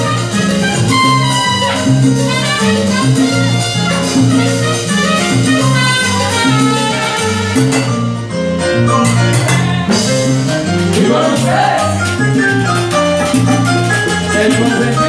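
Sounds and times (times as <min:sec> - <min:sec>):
bass line: 0:00.0 - 0:15.0
salsa band through speakers: 0:00.0 - 0:15.0.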